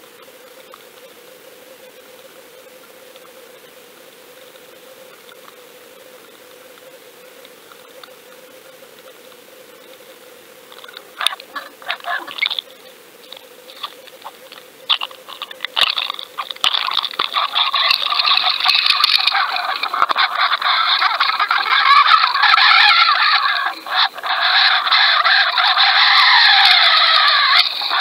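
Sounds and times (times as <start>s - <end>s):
faint steady hiss: 0.0s - 28.0s
crackling rush of water: 2.1s - 28.0s.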